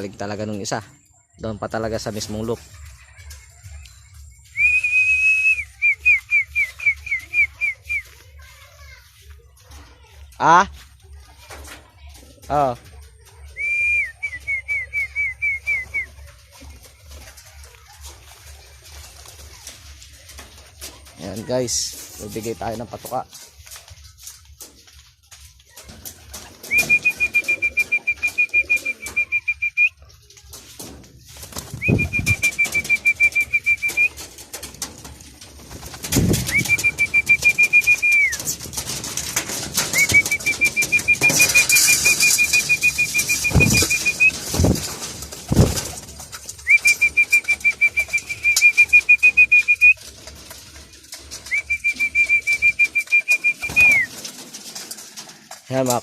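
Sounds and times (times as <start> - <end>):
wings flapping: 1.8 - 56.0.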